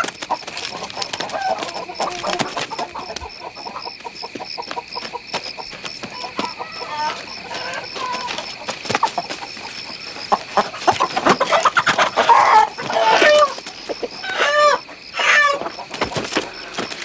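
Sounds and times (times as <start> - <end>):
chickens clucking and squawking: 0.0 - 17.0.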